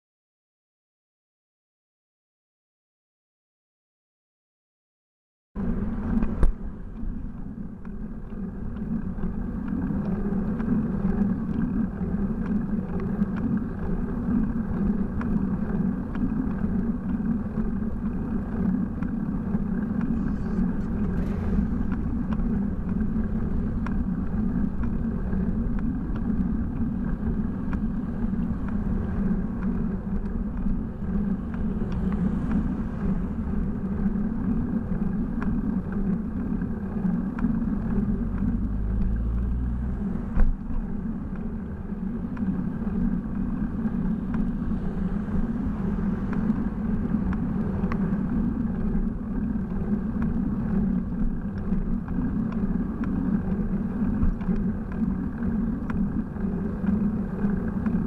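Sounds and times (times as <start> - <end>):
road noise while cycling: 5.6 - 58.0
wind rumble: 5.6 - 58.0.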